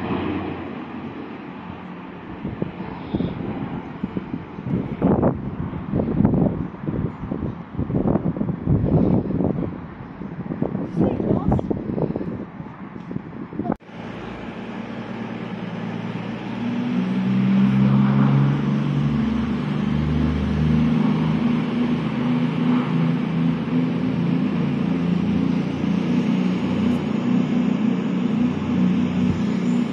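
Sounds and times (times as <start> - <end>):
turboprop propeller drone: 0.0 - 29.9.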